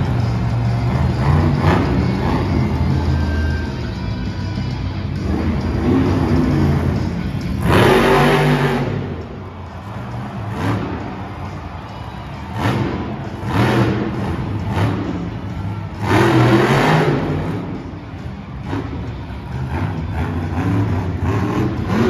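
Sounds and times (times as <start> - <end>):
truck engines revving: 0.0 - 22.0.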